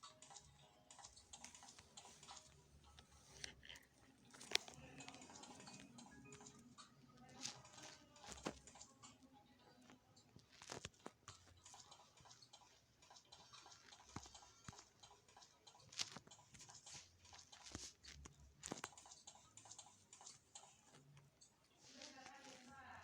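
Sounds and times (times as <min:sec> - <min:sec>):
faint clicks and taps: 0:00.0 - 0:23.0.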